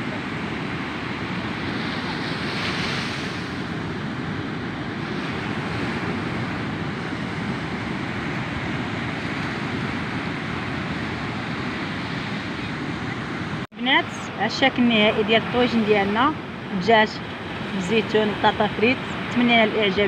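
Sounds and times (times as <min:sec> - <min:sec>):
sea surf: 0:00.0 - 0:20.0
wind on microphone: 0:00.0 - 0:20.0.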